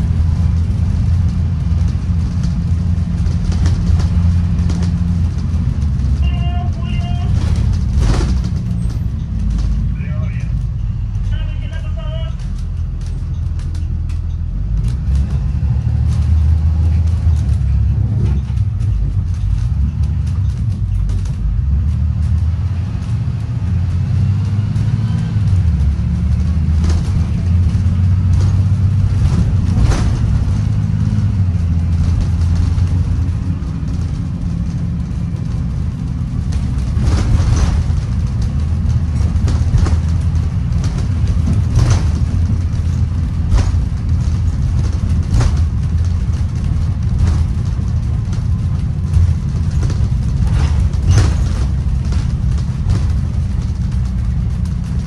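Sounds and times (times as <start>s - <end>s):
body knocks and rattles: 0.0s - 55.0s
bus engine and road rumble: 0.0s - 55.0s.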